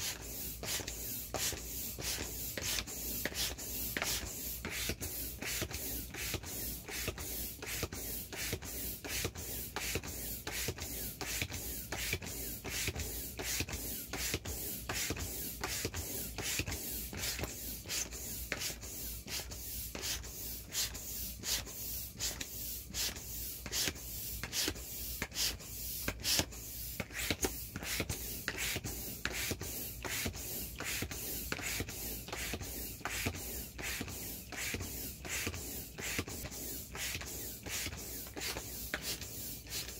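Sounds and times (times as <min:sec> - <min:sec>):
air pump whooshing: 0:00.0 - 0:39.9.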